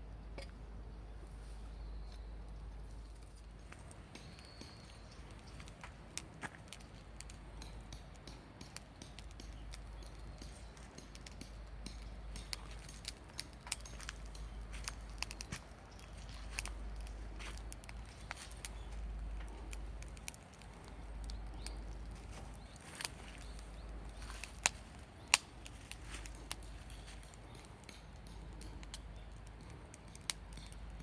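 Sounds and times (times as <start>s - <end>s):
low steady rumble: 0.0s - 31.0s
wood fire crackling and popping: 2.5s - 31.0s.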